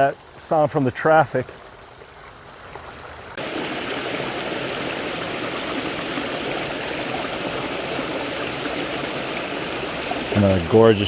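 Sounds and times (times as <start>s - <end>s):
stream running over falls: 0.0s - 11.0s.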